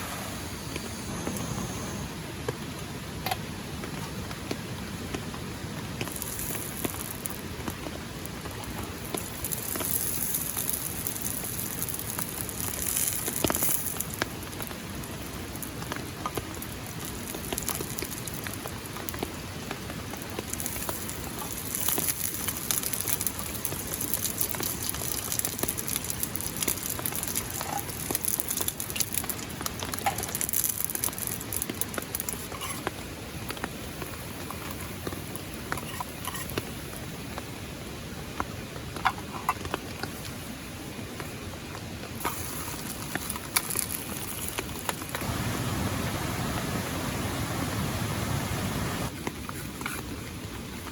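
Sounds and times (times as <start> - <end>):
rain pattering: 2.2 - 50.9.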